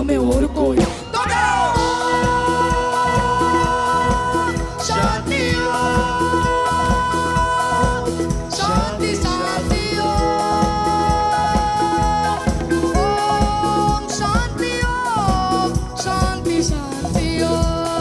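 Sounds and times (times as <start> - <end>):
live band disco music: 0.0 - 18.0
boy singing: 1.0 - 18.0.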